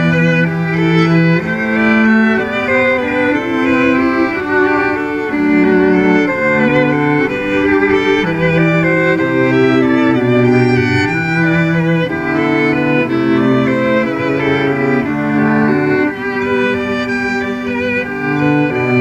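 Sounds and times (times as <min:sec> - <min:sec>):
cello sustaining low notes: 0:00.0 - 0:19.0
violins playing slow music: 0:00.0 - 0:19.0.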